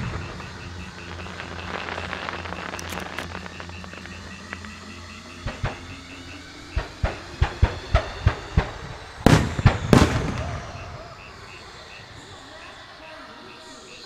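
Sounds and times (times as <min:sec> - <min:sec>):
fireworks shells bursting: 0:00.0 - 0:11.6
fireworks crackle: 0:00.0 - 0:13.0.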